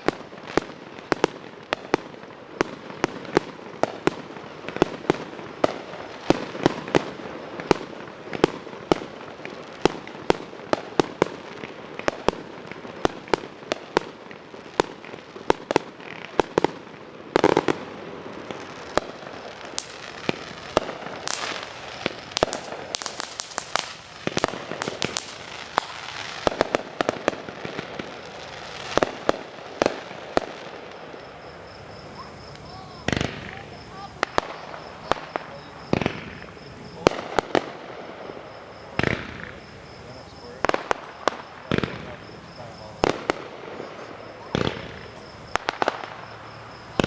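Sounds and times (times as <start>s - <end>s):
fireworks bangs and pops: 0.0s - 47.0s.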